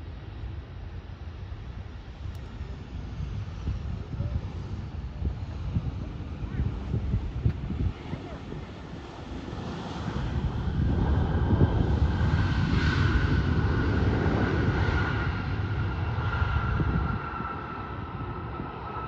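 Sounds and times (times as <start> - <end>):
jet airliner passing: 1.2 - 19.0.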